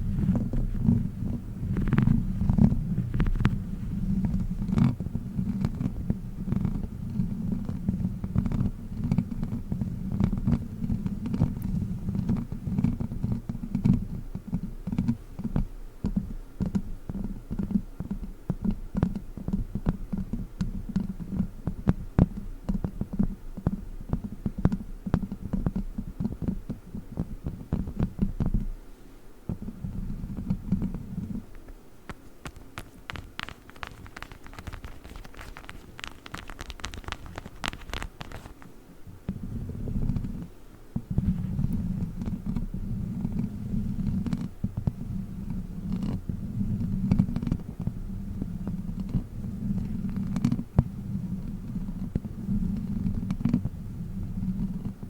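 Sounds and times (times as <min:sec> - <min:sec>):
microphone handling rumble: 0:00.0 - 0:28.8, 0:29.5 - 0:55.0.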